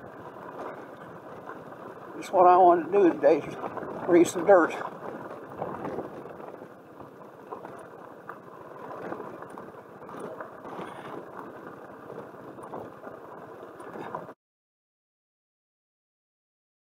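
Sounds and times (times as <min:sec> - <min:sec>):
small gravel ticks: 0:00.0 - 0:14.3
scooter riding on gravel: 0:00.0 - 0:14.4.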